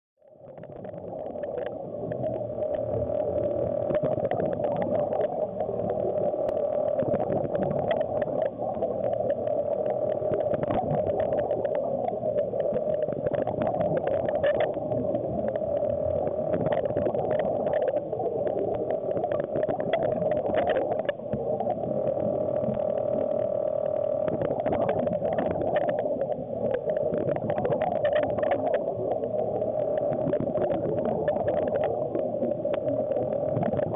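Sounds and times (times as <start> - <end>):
underwater clicks and crackles: 0.2 - 33.9
underwater droning hum: 0.2 - 33.9.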